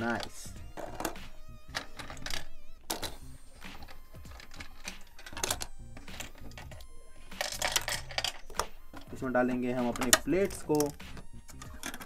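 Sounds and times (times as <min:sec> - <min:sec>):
plastic toy dishes clacking: 0:00.1 - 0:09.1, 0:09.8 - 0:12.0.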